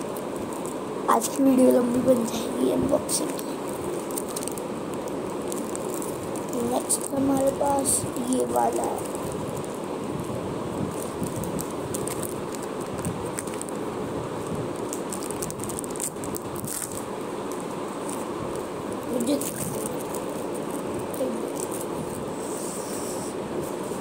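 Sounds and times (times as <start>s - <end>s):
ceiling fan whirring: 0.0s - 24.0s
wrapper and cards crinkling: 3.1s - 22.4s.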